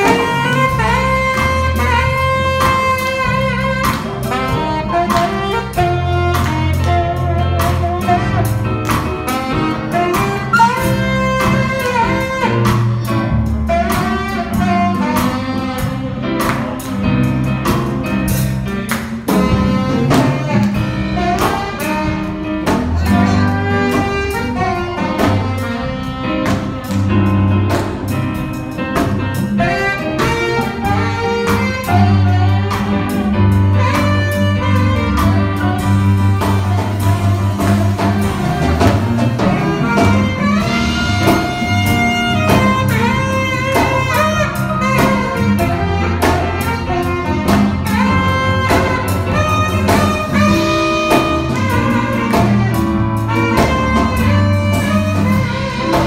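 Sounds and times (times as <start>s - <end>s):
backing track with beat and bass: 0.0s - 56.0s
saxophone slow melody: 0.0s - 56.0s.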